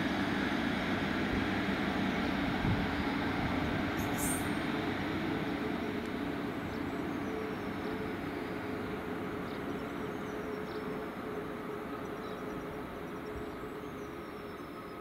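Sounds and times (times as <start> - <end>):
diesel train engine drone: 0.0 - 15.0
wheels rumbling on rail: 0.0 - 15.0.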